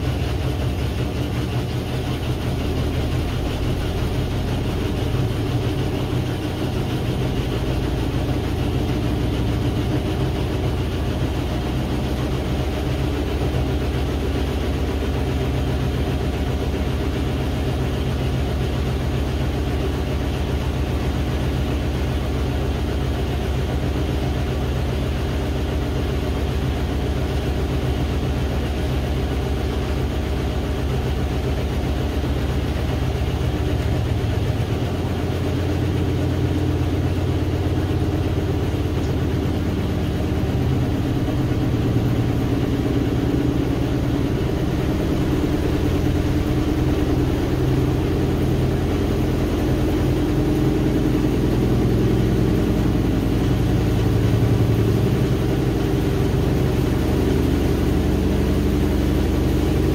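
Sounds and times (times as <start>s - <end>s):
washing machine motor hum: 0.0s - 59.9s.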